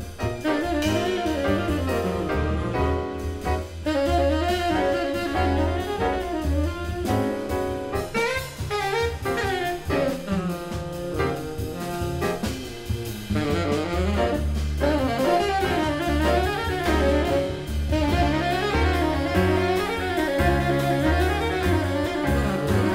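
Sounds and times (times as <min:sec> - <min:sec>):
drum kit: 0:00.0 - 0:22.9
piano: 0:00.0 - 0:22.9
plucked double bass: 0:00.0 - 0:22.9
tenor saxophone melody: 0:00.4 - 0:22.9.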